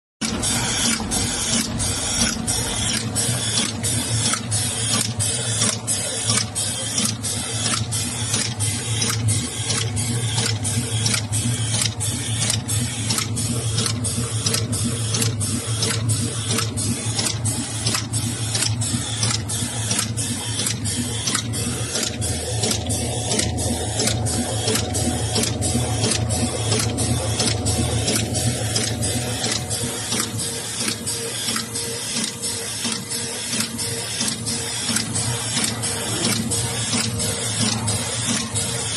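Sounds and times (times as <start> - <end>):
low machine hum: 0.2 - 38.9
machine clattering: 0.2 - 38.9.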